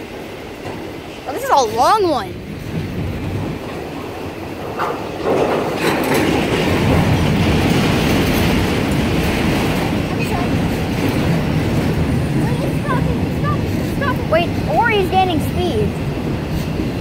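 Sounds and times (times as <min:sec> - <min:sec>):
rail clicks: 0:00.0 - 0:17.0
train wheels rumbling on rails: 0:00.0 - 0:17.0.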